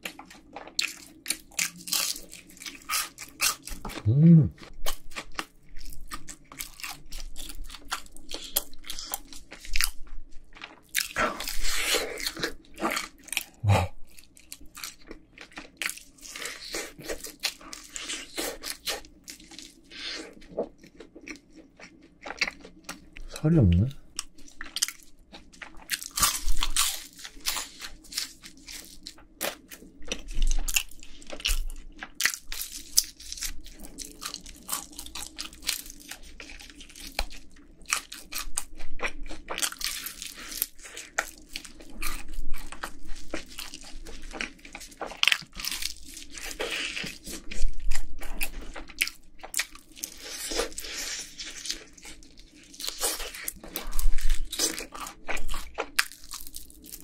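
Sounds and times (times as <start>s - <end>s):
crunching fried chicken: 0.0s - 57.0s.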